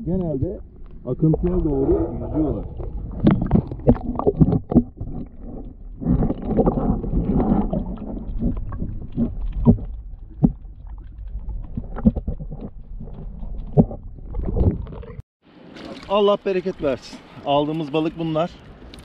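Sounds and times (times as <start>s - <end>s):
underwater rush of water: 0.0s - 19.0s
sharp underwater knocks: 0.2s - 16.1s.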